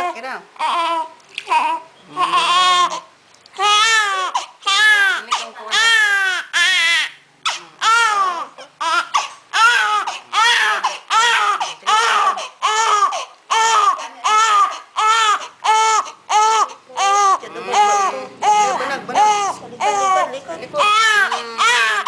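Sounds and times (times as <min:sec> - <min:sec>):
newborn baby crying: 0:00.0 - 0:22.0.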